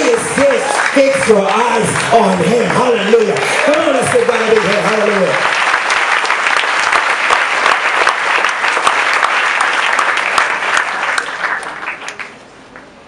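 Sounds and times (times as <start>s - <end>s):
congregation applauding: 0.0s - 12.9s.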